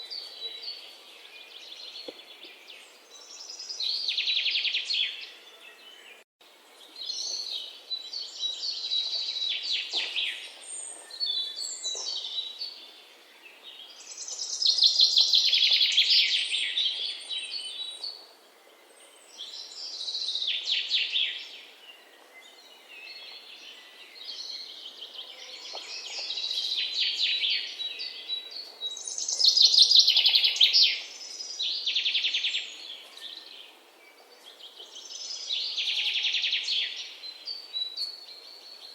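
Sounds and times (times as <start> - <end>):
birds chirping and trilling: 6.8 - 38.9.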